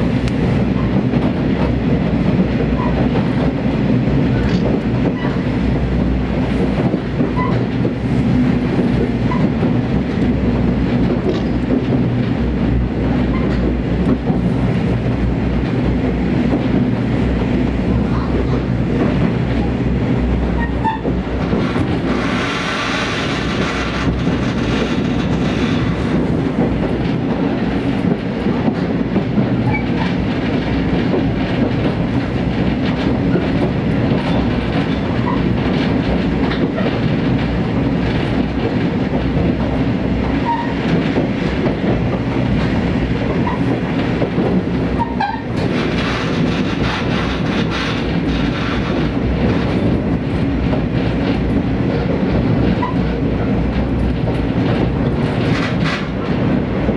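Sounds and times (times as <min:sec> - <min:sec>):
railcar engine and wheels rumbling: 0:00.0 - 0:56.9.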